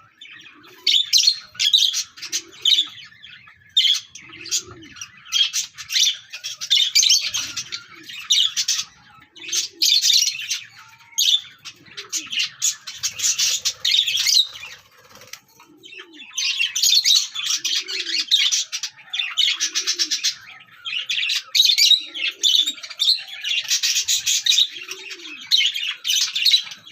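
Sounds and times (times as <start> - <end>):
lovebirds chirping: 0.0 - 26.9.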